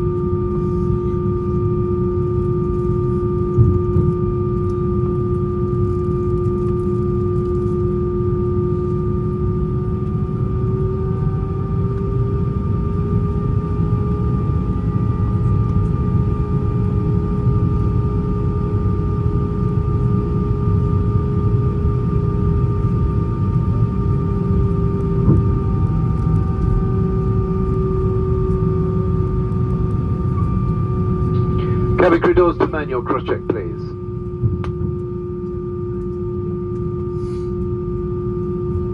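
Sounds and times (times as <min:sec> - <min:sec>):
jet engines idling in cabin: 0:00.0 - 0:38.9.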